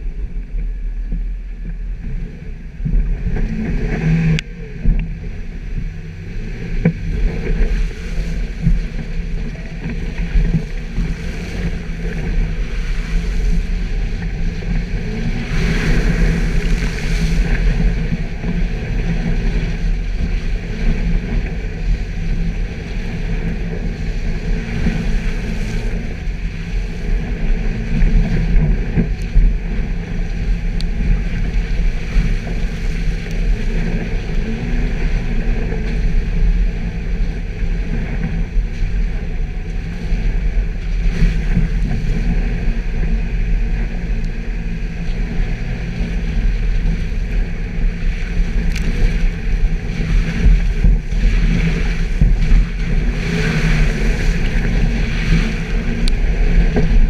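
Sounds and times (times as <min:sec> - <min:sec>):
car engine running: 0:00.0 - 0:57.0
continuous rushing noise: 0:00.0 - 0:57.0.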